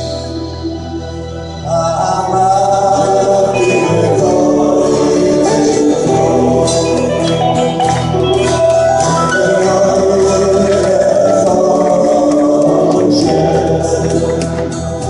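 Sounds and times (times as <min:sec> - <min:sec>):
live band with guitars and drums: 0:00.0 - 0:15.0
man singing into a microphone: 0:01.6 - 0:15.0.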